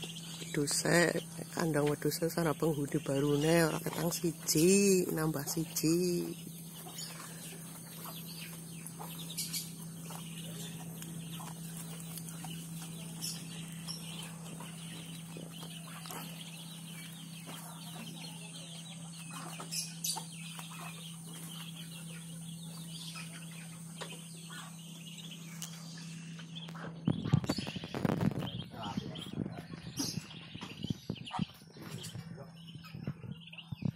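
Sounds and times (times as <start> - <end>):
chickens clucking: 0.0 - 33.9
steady low hum: 0.0 - 33.9.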